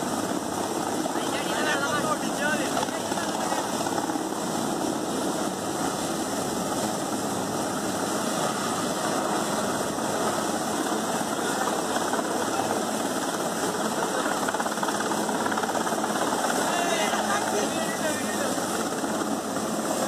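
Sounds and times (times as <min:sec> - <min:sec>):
helicopter rotor beating: 0:00.0 - 0:20.0
turbine engine whine: 0:00.0 - 0:20.0.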